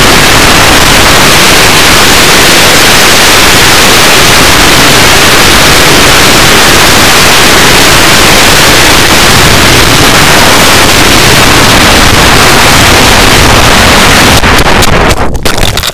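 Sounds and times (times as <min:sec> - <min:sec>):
wind rushing over microphone: 0:00.0 - 0:15.9.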